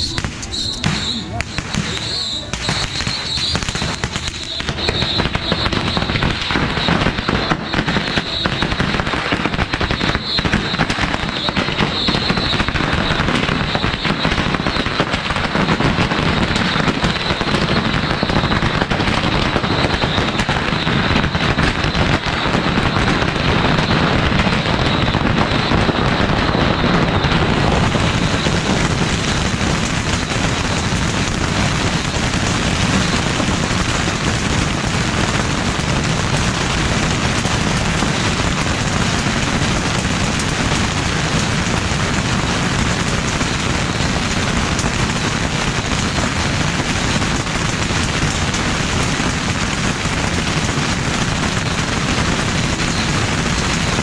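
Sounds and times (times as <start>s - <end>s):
bottle rockets crackling: 0.0s - 54.0s.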